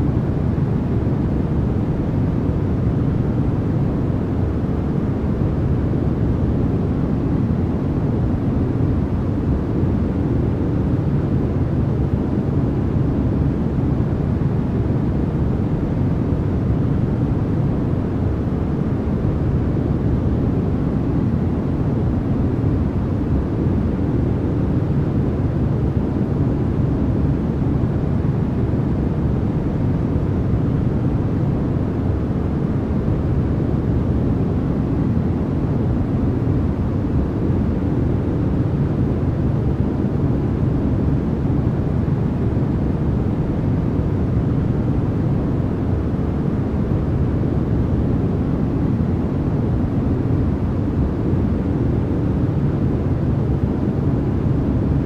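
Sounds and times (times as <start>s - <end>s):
white noise deep rumble: 0.0s - 55.0s.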